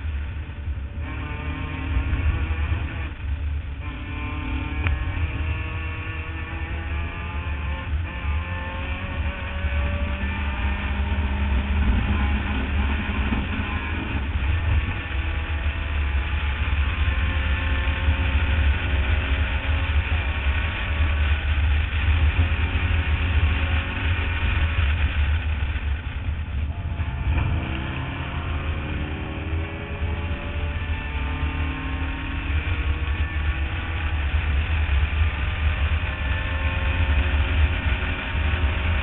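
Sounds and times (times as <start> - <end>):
race car engine at full throttle: 0.0 - 39.0.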